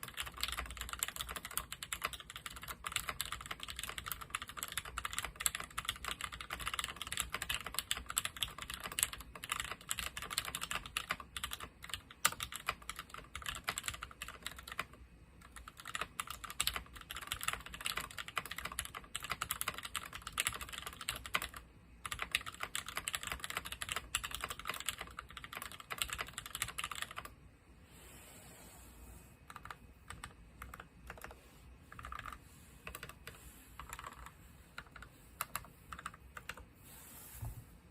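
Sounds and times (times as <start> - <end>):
mechanical keyboard typing: 0.0 - 27.3, 29.5 - 36.6.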